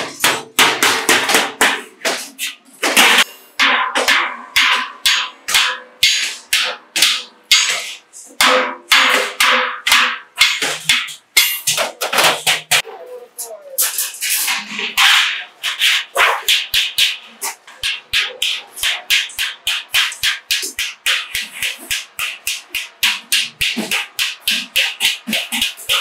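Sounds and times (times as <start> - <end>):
hammer striking metal bucket: 0.0 - 12.8, 13.8 - 26.0.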